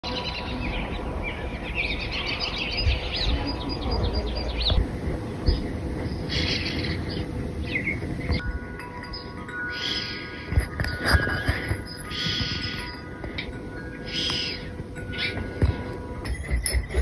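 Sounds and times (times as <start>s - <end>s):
songbirds chirping: 0.0s - 17.0s
steady low rumble: 0.1s - 17.0s.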